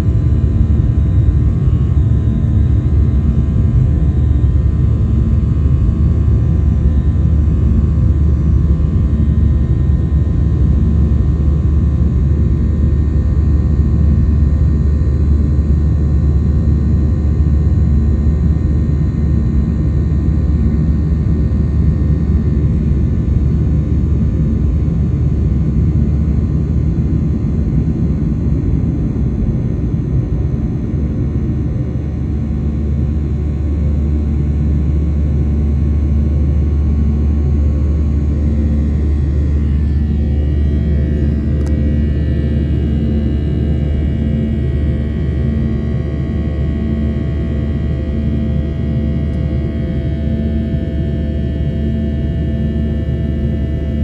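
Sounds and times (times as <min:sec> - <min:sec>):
faint steady hums: 0:00.0 - 0:54.0
jet engine drone in cabin: 0:00.0 - 0:54.0.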